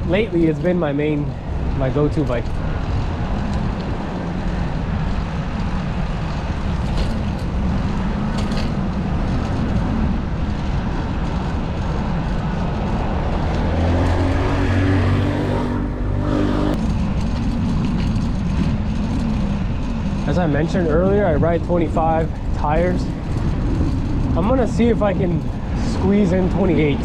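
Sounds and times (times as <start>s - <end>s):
street traffic rumble: 0.0s - 27.0s
vehicle engine hum: 0.0s - 27.0s.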